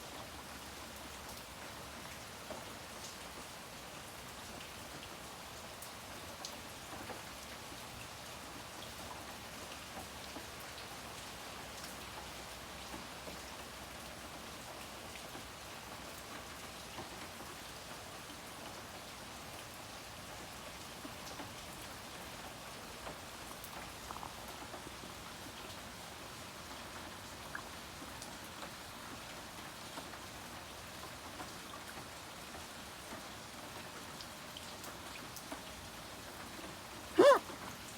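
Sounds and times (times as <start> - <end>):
rain falling on water: 0.0 - 37.9.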